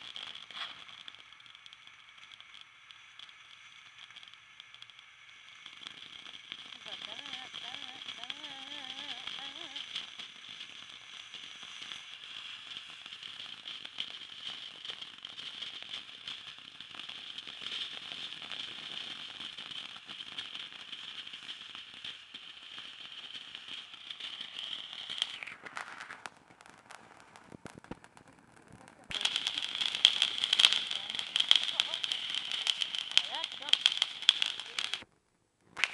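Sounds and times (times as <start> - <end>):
firework hissing and crackling: 0.0 - 35.9.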